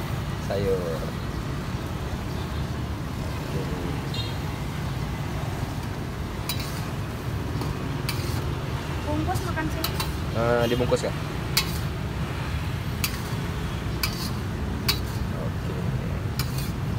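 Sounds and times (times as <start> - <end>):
low rumble of street traffic: 0.0 - 16.9.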